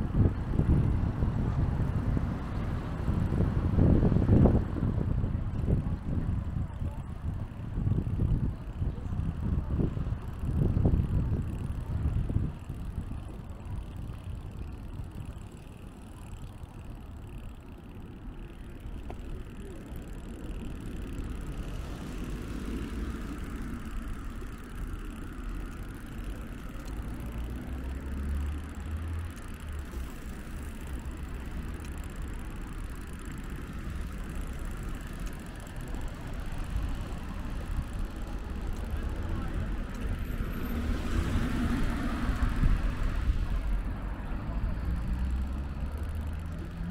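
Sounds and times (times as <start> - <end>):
low traffic rumble: 0.0 - 46.9
cars passing: 7.7 - 46.9.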